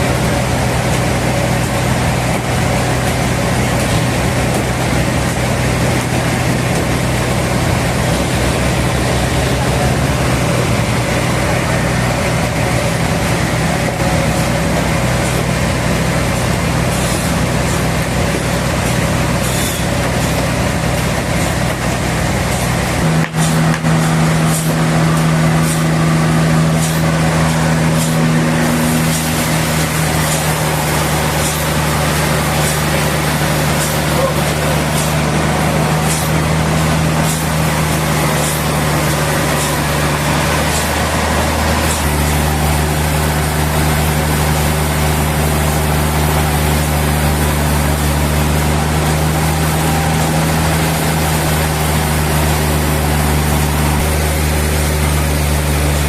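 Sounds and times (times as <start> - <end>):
heavy machinery engine droning: 0.0 - 56.0.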